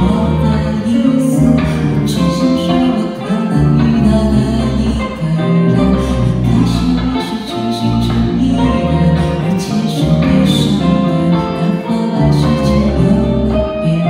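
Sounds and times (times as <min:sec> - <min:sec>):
electric guitar: 0:00.0 - 0:14.0
woman singing into microphone: 0:00.0 - 0:14.0.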